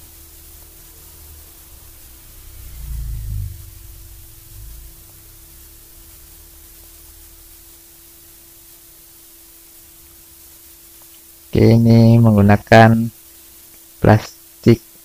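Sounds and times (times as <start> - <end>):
background hiss: 0.0 - 15.0
faint low hum: 0.0 - 15.0.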